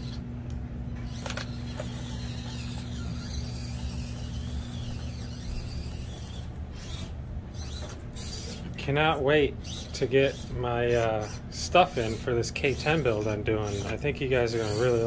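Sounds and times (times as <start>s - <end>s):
toy truck electric motor whirring: 0.0s - 0.3s, 0.9s - 15.0s.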